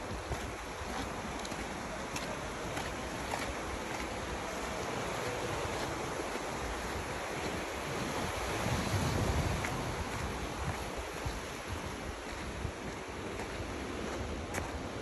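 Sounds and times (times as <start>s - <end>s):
waves washing on rocky shore: 0.0s - 15.0s
wind rumbling on microphone: 0.0s - 15.0s.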